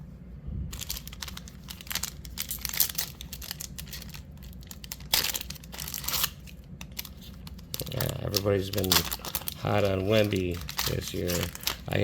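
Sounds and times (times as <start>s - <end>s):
plastic wrapper crinkling: 0.7s - 12.0s
plastic wrapper ripping: 0.7s - 12.0s.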